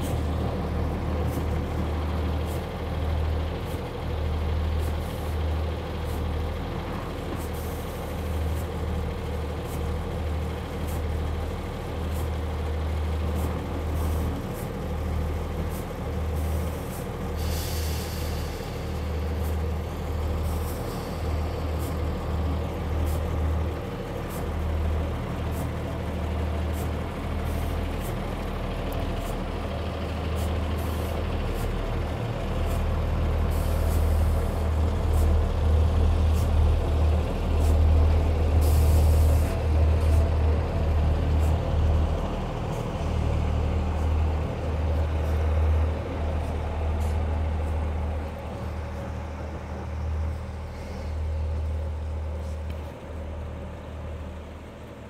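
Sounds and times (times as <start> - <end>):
diesel train passing: 0.0 - 55.0.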